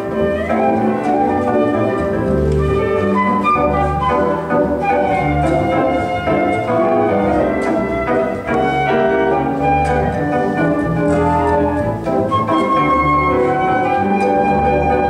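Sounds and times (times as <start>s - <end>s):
flute melody: 0.0s - 15.0s
piano: 0.0s - 15.0s.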